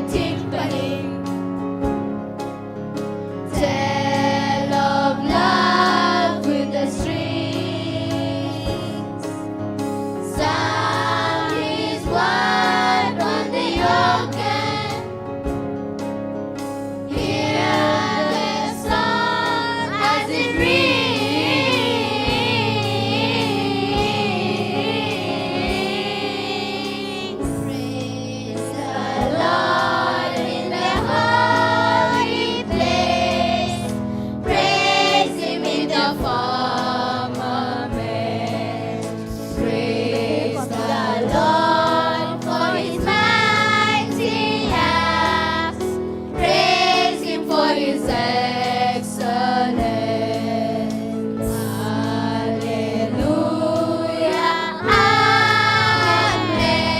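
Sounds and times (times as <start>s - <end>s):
choir singing a hymn: 0.0s - 2.0s, 3.2s - 15.6s, 16.6s - 56.9s
instrumental accompaniment: 0.0s - 56.9s.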